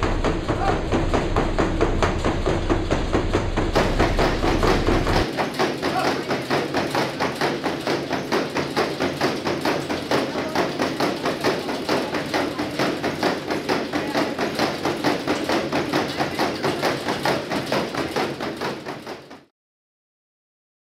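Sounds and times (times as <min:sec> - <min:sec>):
horse hooves galloping on treadmill: 0:00.0 - 0:19.5.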